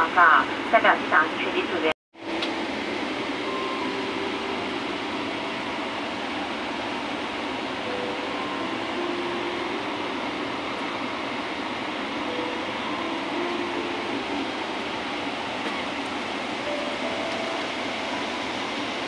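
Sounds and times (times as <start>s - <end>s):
airliner cabin ventilation hum: 0.0s - 19.0s.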